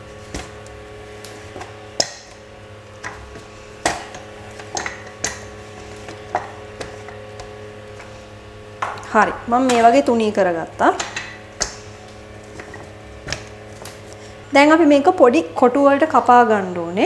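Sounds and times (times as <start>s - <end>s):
rolling pin rolling dough: 0.0s - 14.3s
faint steady hum: 0.0s - 17.0s.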